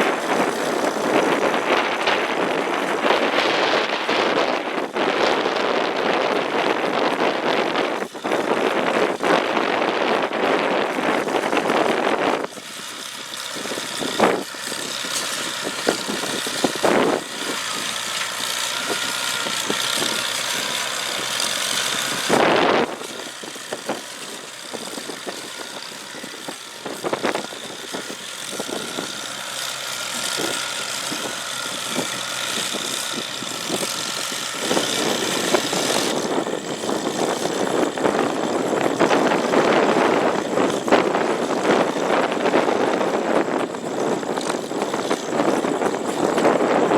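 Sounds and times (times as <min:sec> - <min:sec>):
hay baler engine running: 0:00.0 - 0:46.9
wind buffeting microphone: 0:00.0 - 0:46.9.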